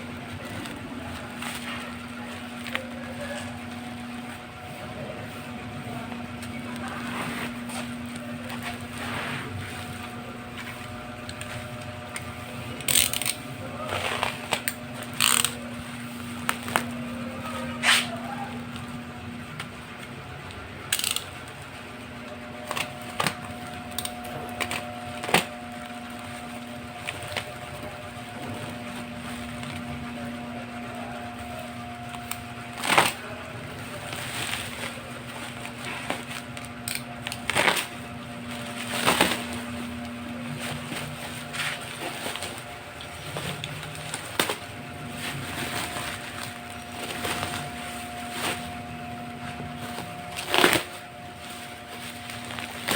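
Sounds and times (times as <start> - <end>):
steady low hum: 0.0 - 52.9
packaging clicks and rustles: 0.1 - 4.7, 5.9 - 52.9.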